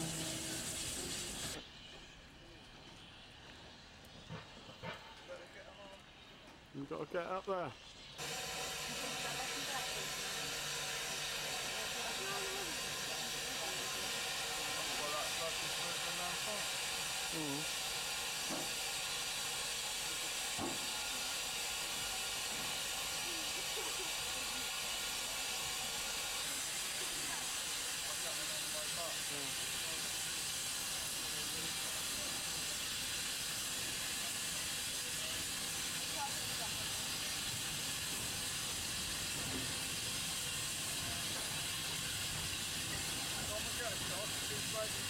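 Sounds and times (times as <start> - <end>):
steam hissing: 0.0 - 45.0.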